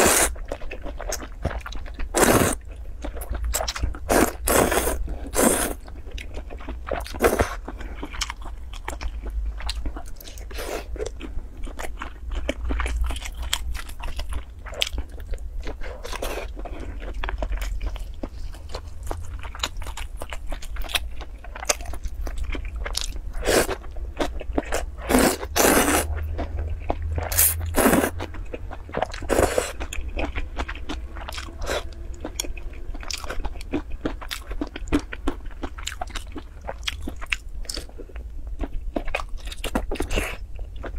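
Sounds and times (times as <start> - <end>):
noodles slurped and chewed: 0.0 - 40.9.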